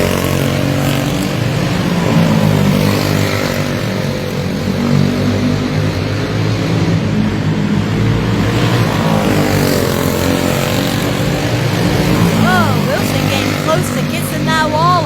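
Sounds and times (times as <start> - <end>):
go-kart engines racing: 0.0 - 15.0.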